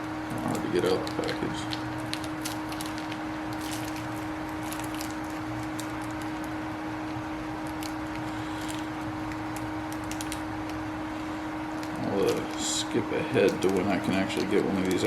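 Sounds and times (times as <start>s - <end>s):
electrical hum: 0.0s - 15.0s
plastic packaging clicks and rustles: 0.3s - 6.6s, 7.6s - 10.8s, 11.7s - 15.0s.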